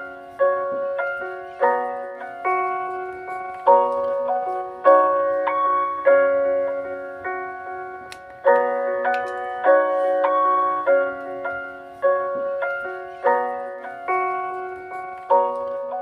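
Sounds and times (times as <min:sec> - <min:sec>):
soft keyboard chords: 0:00.0 - 0:16.0.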